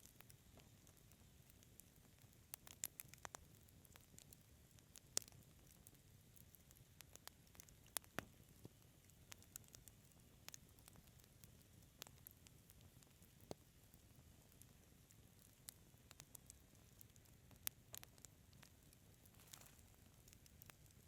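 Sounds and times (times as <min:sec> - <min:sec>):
fire popping and snapping: 0:00.0 - 0:21.0
wood fire crackling: 0:00.0 - 0:21.0.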